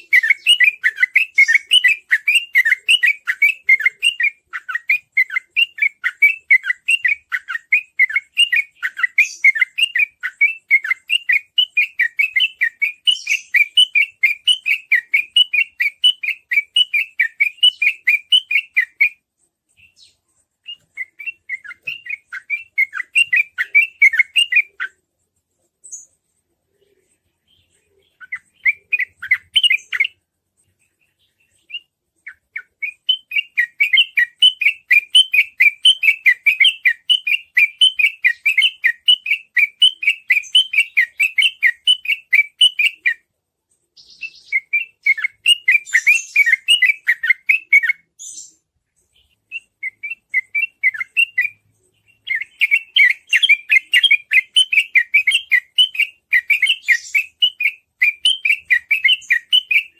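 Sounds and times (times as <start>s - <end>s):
bird singing rapid phrases: 0.0s - 59.9s.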